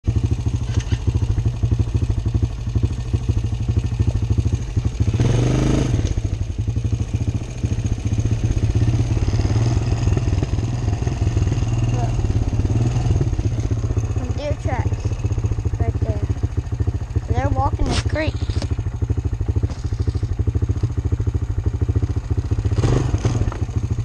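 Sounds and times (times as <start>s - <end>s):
atv engine running: 0.1s - 24.0s.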